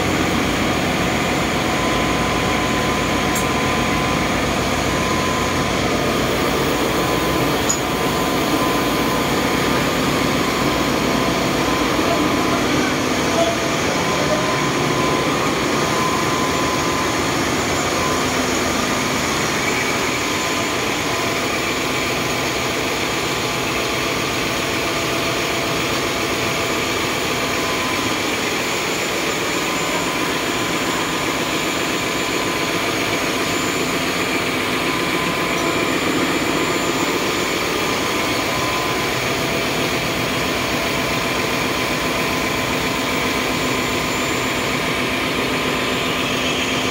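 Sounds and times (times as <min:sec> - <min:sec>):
engine room machinery din: 0:00.0 - 0:46.9.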